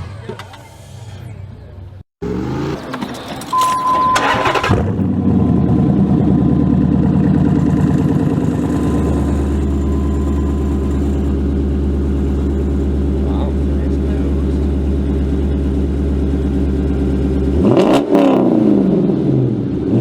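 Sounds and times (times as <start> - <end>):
engine cranking and idling: 0.0 - 17.6.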